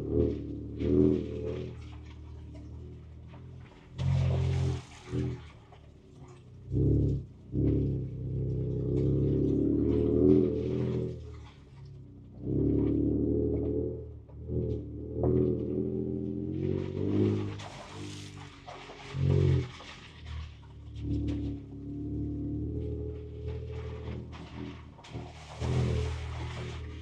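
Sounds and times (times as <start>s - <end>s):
engine revving from inside cab: 0.0s - 27.0s.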